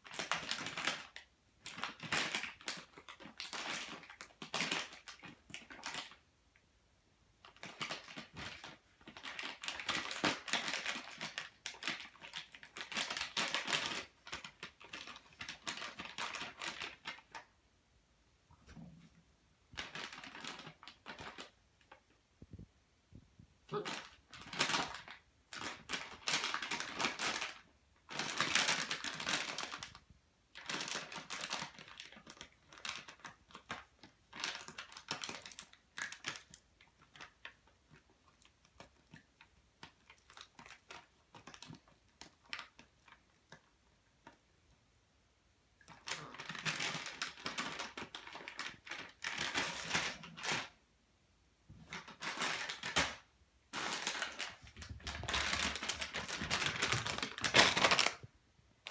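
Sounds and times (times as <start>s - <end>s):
plastic bag crinkling: 0.0s - 6.2s, 7.4s - 17.5s, 19.7s - 22.1s, 23.7s - 44.4s, 45.8s - 50.8s, 51.8s - 58.9s.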